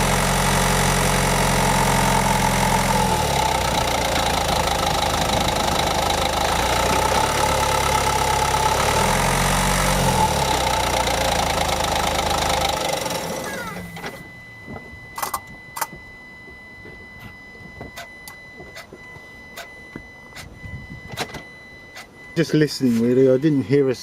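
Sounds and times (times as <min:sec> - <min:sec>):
car engine running: 0:00.0 - 0:23.6.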